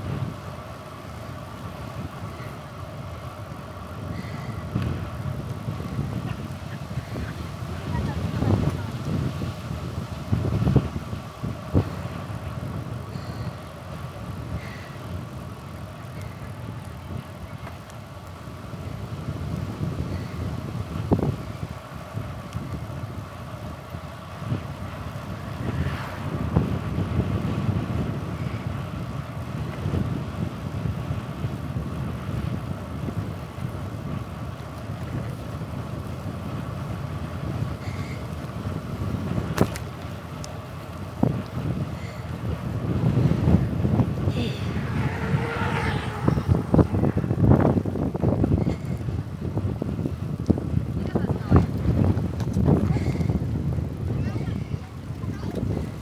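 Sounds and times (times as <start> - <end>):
bicycle tyre noise: 0.0 - 56.0
wind rumble: 0.0 - 56.0.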